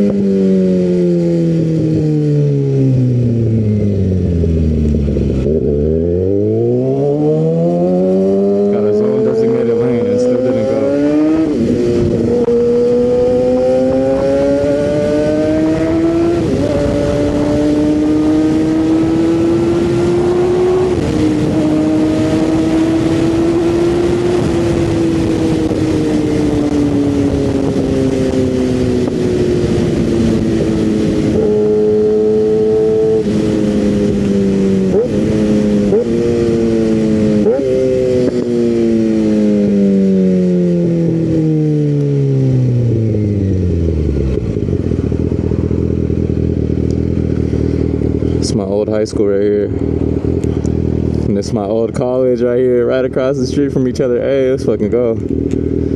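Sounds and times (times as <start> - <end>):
motorcycle engine revving: 0.0 - 55.9
wind noise: 1.1 - 55.9.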